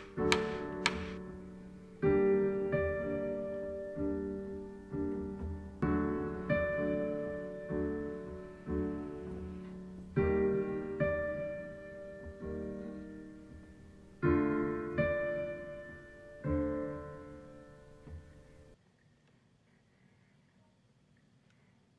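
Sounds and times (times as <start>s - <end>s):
slow solo piano: 0.0s - 18.8s.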